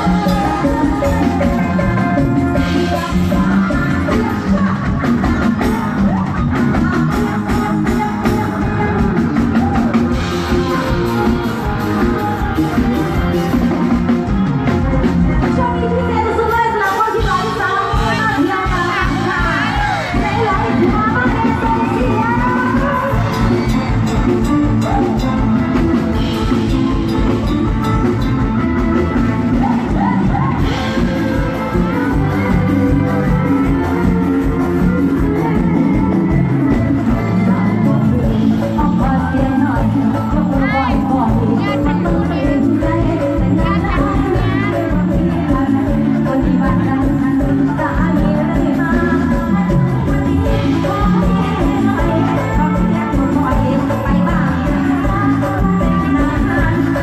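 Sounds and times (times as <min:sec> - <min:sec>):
drum kit steady beat: 0:00.0 - 0:57.0
electric guitar: 0:00.0 - 0:57.0
live band music: 0:00.0 - 0:57.0
person singing: 0:00.0 - 0:57.0.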